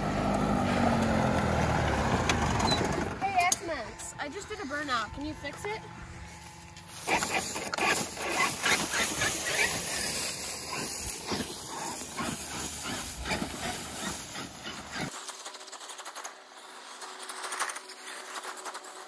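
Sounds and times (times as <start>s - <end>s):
rake scraping over asphalt: 0.4s - 19.0s.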